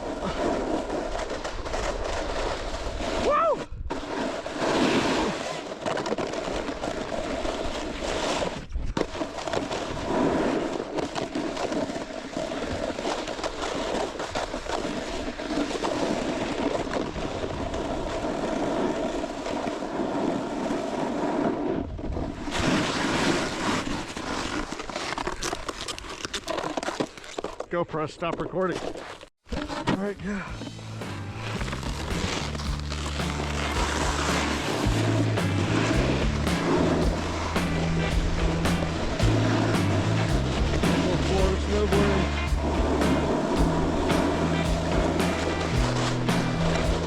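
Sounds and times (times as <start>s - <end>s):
snowboard scraping over snow: 0.0s - 25.1s, 29.0s - 47.0s.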